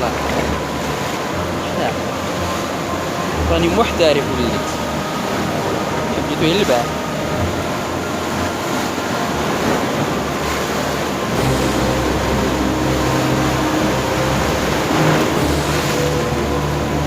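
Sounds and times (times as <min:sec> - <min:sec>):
low motor hum: 0:00.0 - 0:17.0
sea noise: 0:00.0 - 0:17.0.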